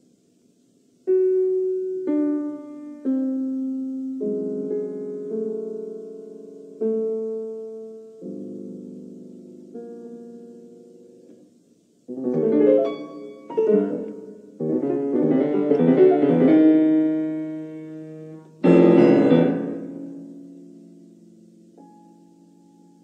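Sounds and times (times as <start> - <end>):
solo piano music: 1.0 - 23.0.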